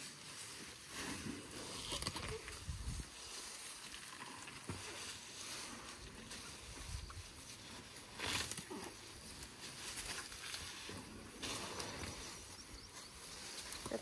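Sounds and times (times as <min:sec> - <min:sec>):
elephants tearing grass: 0:00.0 - 0:14.0.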